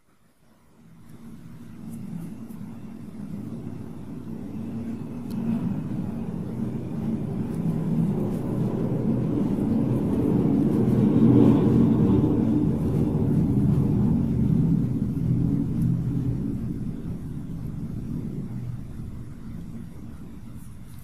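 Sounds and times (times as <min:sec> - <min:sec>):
low engine rumble: 0:00.8 - 0:21.0.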